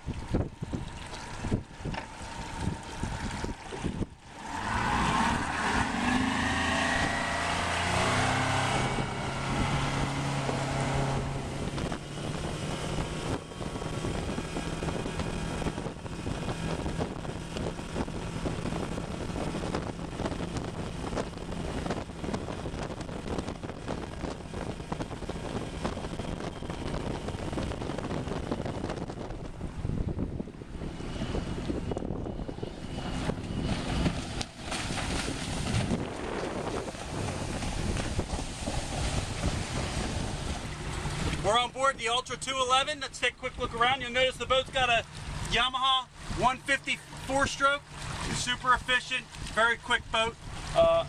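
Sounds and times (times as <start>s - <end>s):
wind buffeting microphone: 0.0s - 48.6s, 49.3s - 50.8s
outboard motor running: 0.0s - 51.0s
water rushing along hull: 0.0s - 51.0s.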